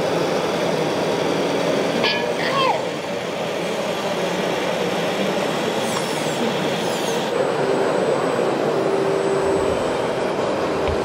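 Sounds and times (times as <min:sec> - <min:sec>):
model vehicles running: 0:00.0 - 0:11.0.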